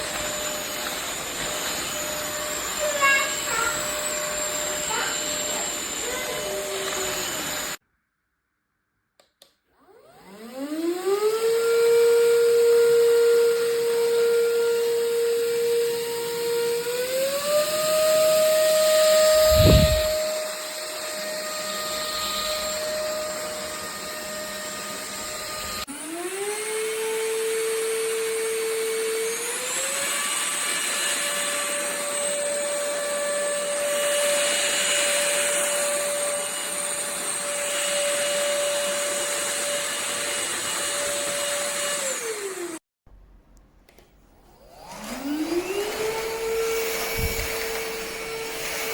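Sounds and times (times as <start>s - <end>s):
vacuum motor whine: 0.0s - 7.8s, 9.8s - 42.8s, 44.4s - 48.9s.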